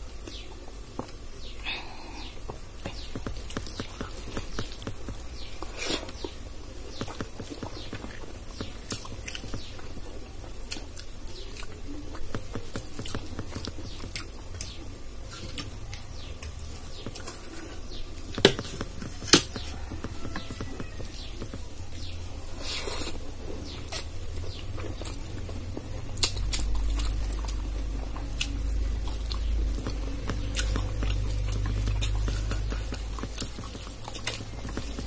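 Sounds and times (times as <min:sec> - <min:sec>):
chewing: 0:02.2 - 0:35.0
fingers squishing food: 0:02.2 - 0:35.0.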